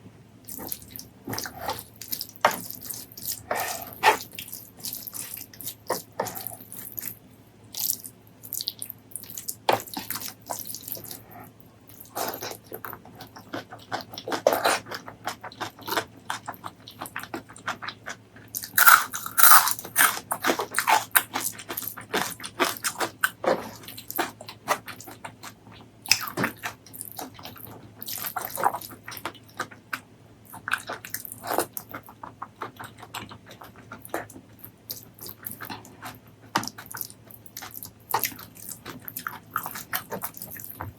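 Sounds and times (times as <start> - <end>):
wet chewing and lip-smacking: 0.4 - 40.9.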